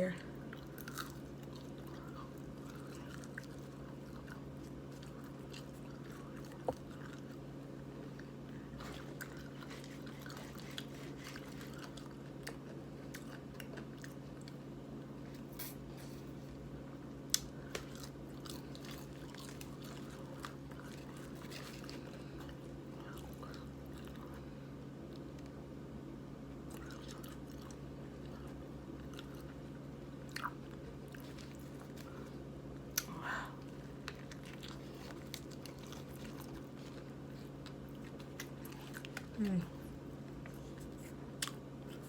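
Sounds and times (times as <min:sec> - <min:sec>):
steady low hum: 0:00.0 - 0:42.0
person chewing and crunching: 0:00.4 - 0:16.4, 0:17.2 - 0:25.5, 0:26.6 - 0:42.0.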